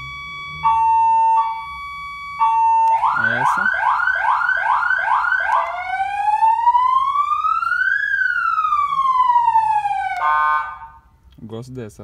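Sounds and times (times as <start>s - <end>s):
police siren yelp and wail: 0.0s - 11.0s.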